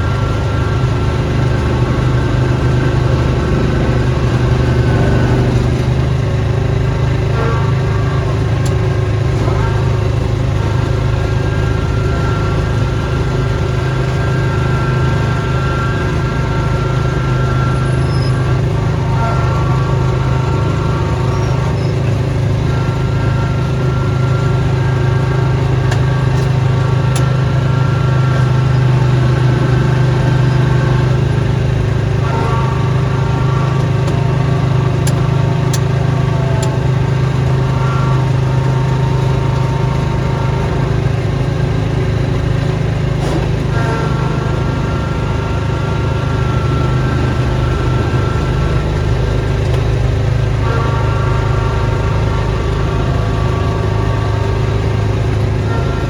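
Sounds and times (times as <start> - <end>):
faint high whine: 0.0 - 56.0
small gasoline engine running: 0.0 - 56.0.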